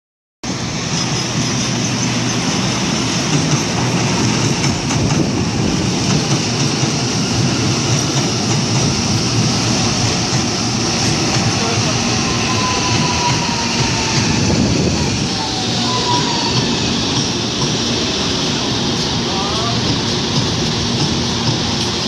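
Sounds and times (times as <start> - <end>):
electric train wheels on rail: 0.4 - 22.0.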